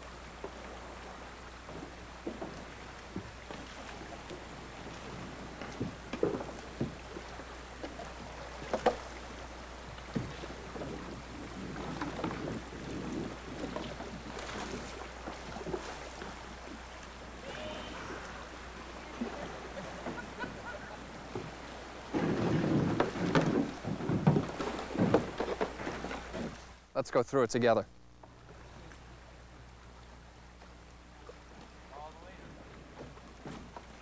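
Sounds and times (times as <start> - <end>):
canoe paddles splashing: 0.0 - 26.9, 28.0 - 34.0
moving water: 0.0 - 34.0.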